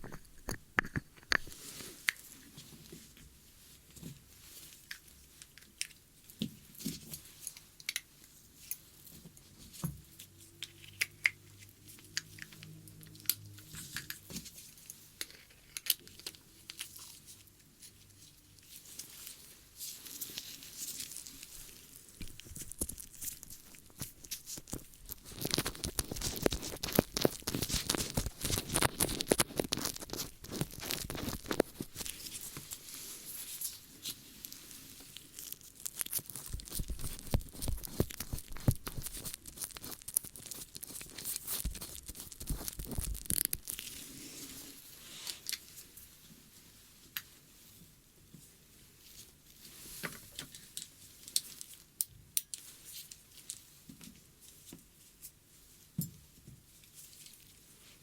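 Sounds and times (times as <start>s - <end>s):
ear-cleaning crackling and scratching: 0.0s - 47.4s.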